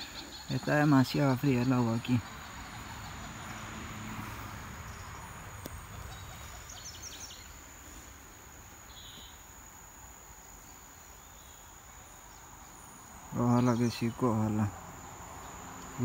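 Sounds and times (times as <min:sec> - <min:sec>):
faint outdoor hiss: 0:00.0 - 0:16.0
high-pitched insect trill: 0:00.0 - 0:16.0.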